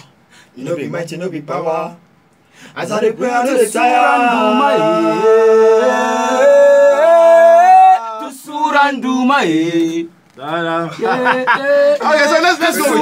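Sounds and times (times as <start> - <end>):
man singing unaccompanied: 0.6 - 2.0, 2.7 - 13.0.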